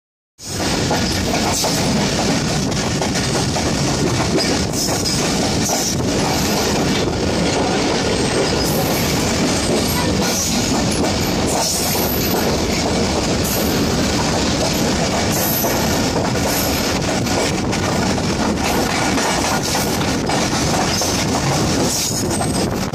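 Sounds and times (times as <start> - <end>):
train carriage wheels rumbling: 0.4 - 22.9.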